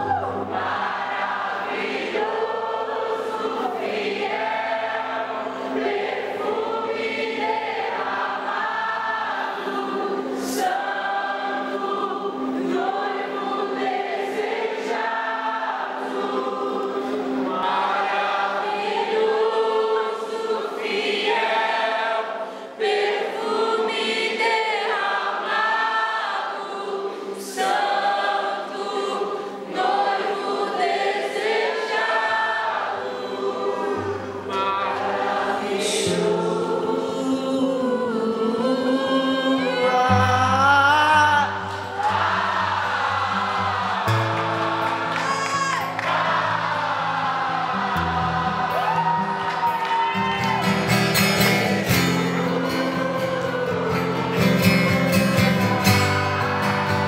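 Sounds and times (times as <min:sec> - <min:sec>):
congregation singing: 0:00.0 - 0:57.0.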